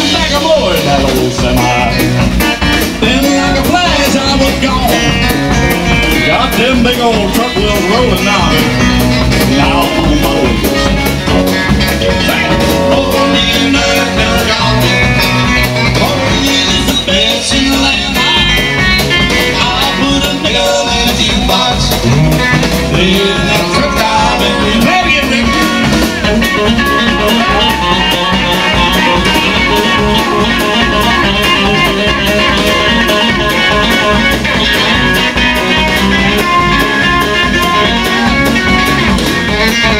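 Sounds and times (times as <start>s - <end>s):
drum kit beat: 0.0s - 39.9s
electric bass: 0.0s - 39.9s
electric guitar: 0.0s - 39.9s.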